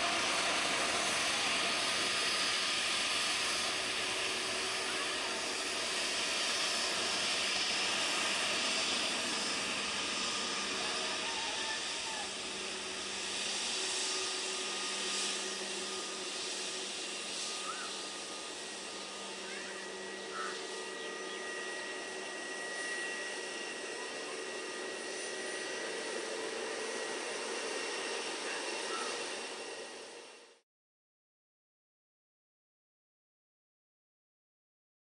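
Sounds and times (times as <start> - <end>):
jet engines at take-off: 0.0 - 30.6.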